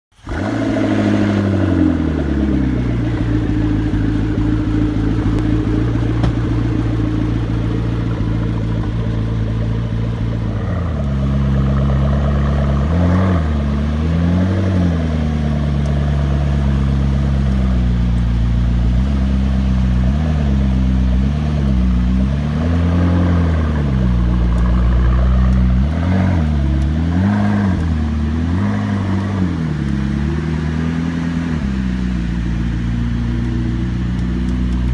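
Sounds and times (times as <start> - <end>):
car engine cruising: 0.1 - 34.9.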